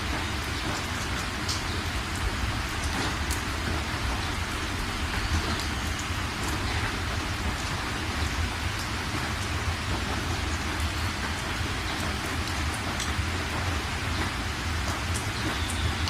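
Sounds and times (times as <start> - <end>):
raindrop ticks: 0.0 - 16.0
steady rain: 0.0 - 16.0.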